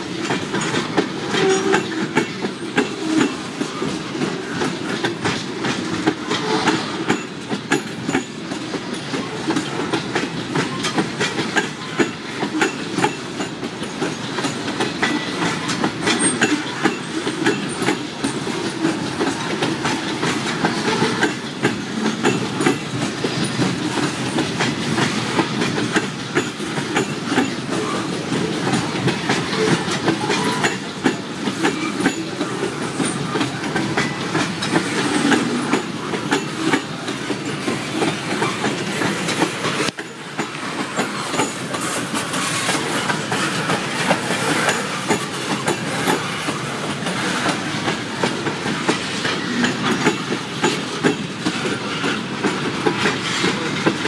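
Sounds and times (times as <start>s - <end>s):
train wheels clacking on rails: 0.0s - 54.0s.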